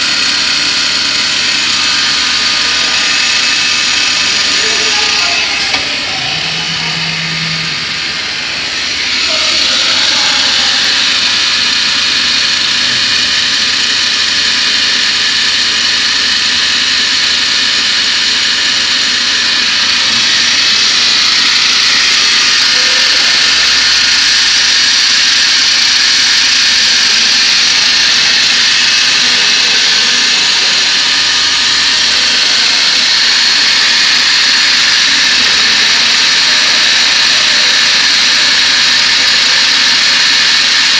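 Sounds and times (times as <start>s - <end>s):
router spindle high-pitched whine: 0.0s - 40.9s.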